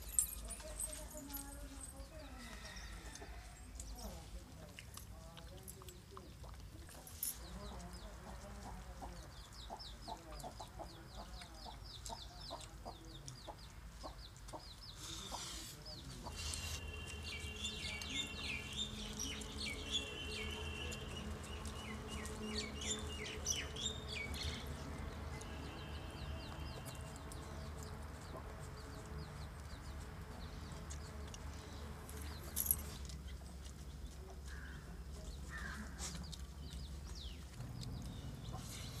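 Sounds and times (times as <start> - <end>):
birds chirping: 7.2 - 39.0.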